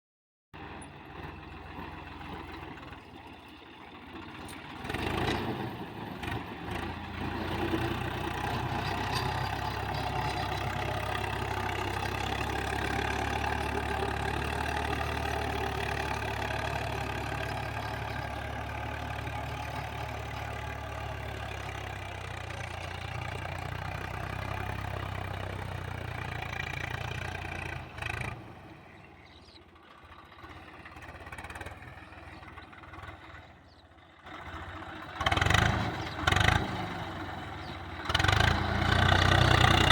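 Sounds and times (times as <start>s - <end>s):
tractor diesel engine running: 0.6s - 39.9s.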